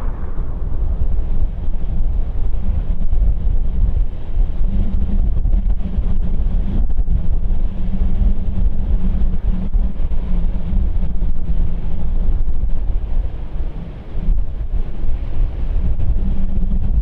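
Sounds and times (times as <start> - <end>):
low rumble and hum: 0.0 - 17.0
wind buffeting microphone: 0.0 - 17.0.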